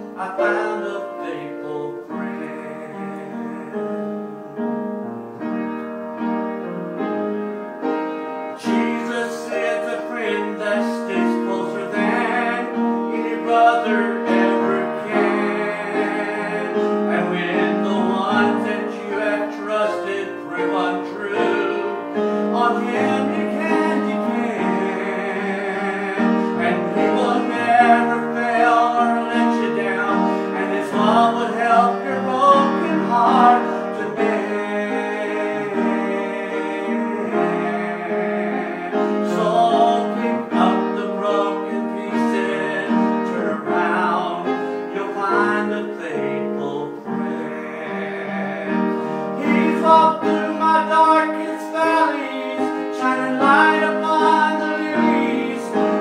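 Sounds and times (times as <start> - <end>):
man singing a hymn: 0.0 - 4.7, 8.4 - 56.0
upright piano: 0.0 - 56.0.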